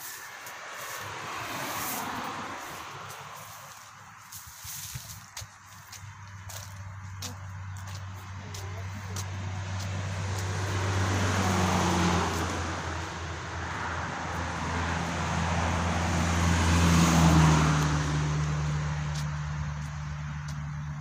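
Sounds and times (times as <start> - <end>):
vehicle engine and road noise: 0.0 - 21.0
vehicles passing: 0.0 - 21.0.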